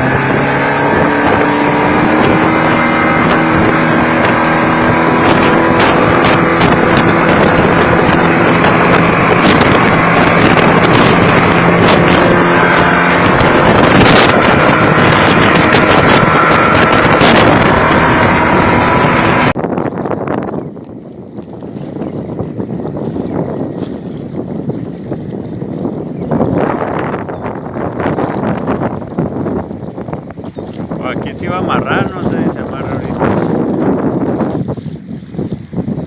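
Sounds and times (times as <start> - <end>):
motorboat engine running: 0.0 - 36.0
wind buffeting microphone: 0.0 - 36.0.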